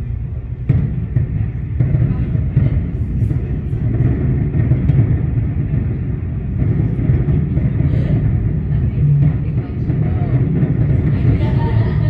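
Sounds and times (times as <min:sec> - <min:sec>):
distant fireworks booming: 0:00.1 - 0:12.0.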